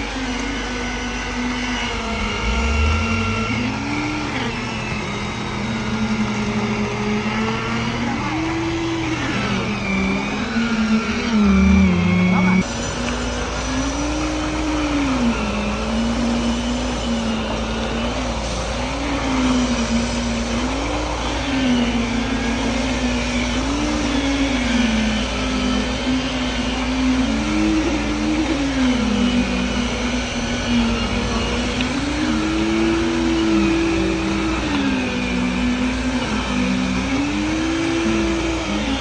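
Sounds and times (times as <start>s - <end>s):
engine running under load: 0.0s - 39.0s
second engine running: 0.0s - 39.0s.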